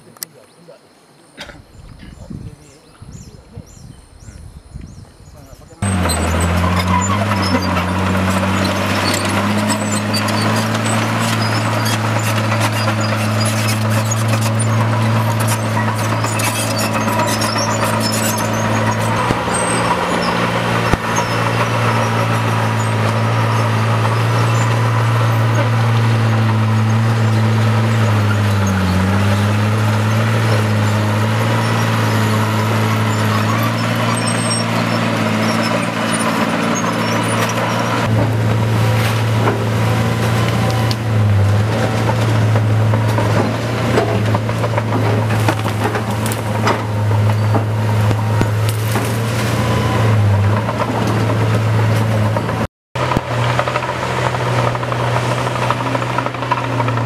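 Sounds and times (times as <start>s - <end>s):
bulldozer diesel engine: 5.2s - 57.0s.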